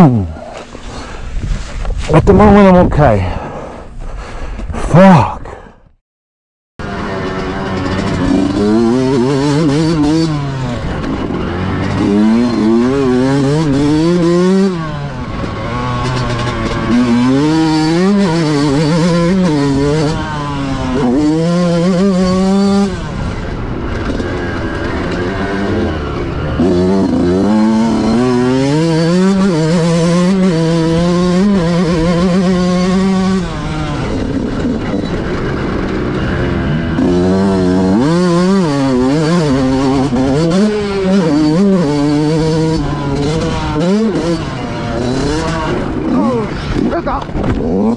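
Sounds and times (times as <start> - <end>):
motocross bike engine revving: 6.8 - 47.9.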